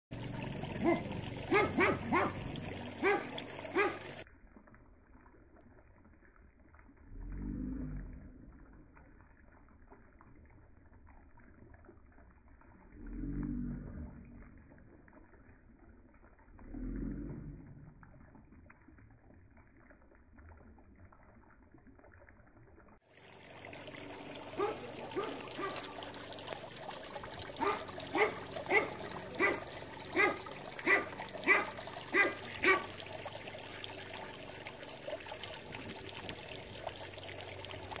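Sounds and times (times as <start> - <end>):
fountain trickling and splashing: 0.0 - 38.0.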